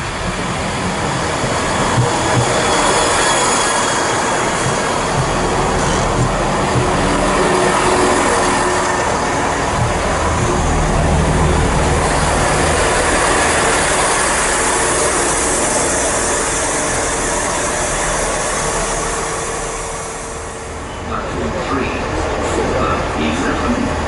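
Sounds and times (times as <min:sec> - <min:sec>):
train engine rumble: 0:00.0 - 0:24.0
train wheel noise: 0:00.0 - 0:24.0.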